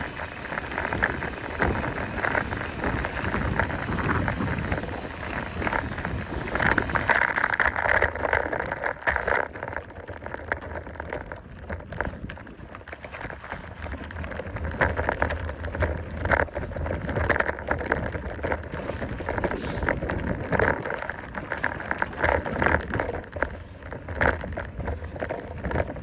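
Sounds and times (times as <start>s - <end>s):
bike rattling: 0.0s - 26.0s.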